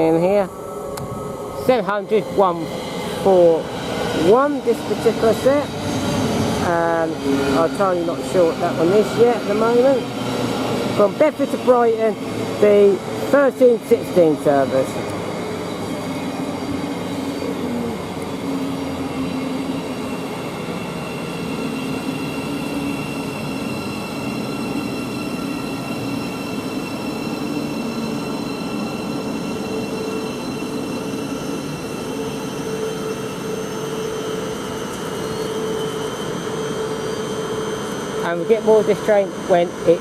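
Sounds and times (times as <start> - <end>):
electric train humming and whining: 0.0 - 40.0.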